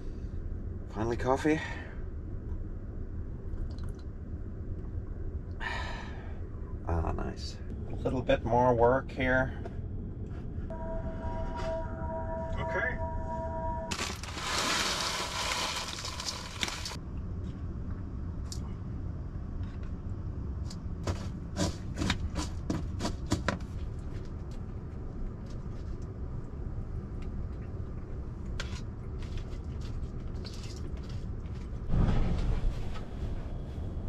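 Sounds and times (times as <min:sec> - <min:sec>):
low rumble: 0:00.0 - 0:21.5, 0:23.8 - 0:34.0.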